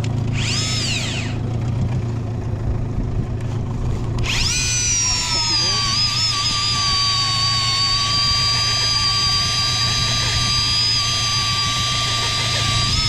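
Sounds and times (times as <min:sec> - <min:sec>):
small motor whining: 0:00.0 - 0:01.8, 0:03.4 - 0:13.0.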